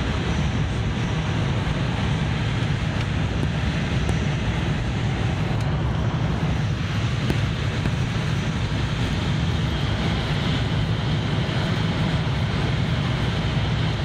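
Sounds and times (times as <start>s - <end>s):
rushing noise: 0.0s - 14.0s
train rumble inside carriage: 0.0s - 14.0s.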